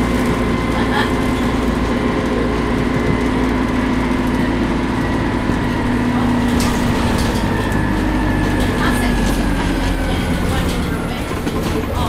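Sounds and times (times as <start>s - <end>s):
bus engine running: 0.0s - 12.0s
drivetrain whine: 0.0s - 12.0s.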